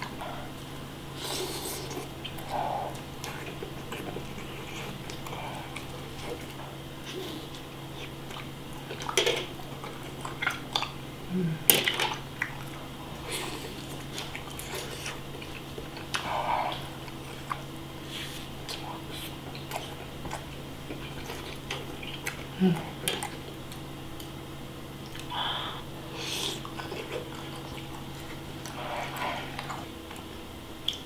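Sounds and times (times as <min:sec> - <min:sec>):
biting and chewing fish cake: 0:00.0 - 0:11.1, 0:12.2 - 0:31.0.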